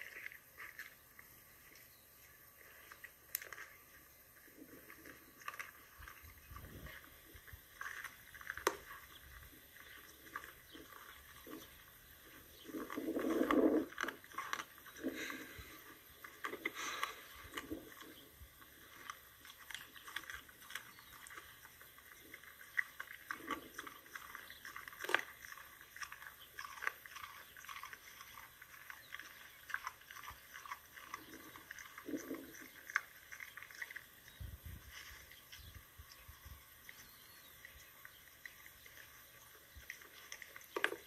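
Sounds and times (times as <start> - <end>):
dog chewing: 0.0 - 41.0.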